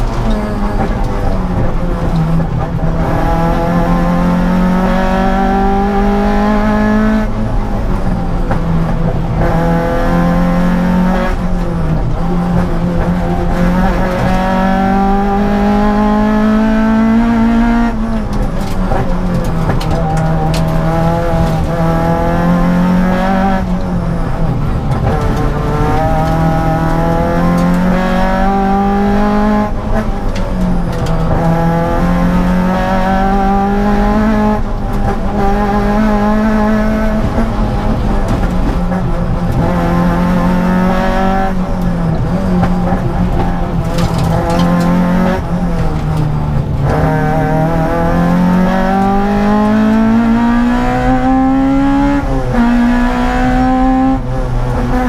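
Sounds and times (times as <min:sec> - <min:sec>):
car engine revving hard: 0:00.0 - 0:55.0.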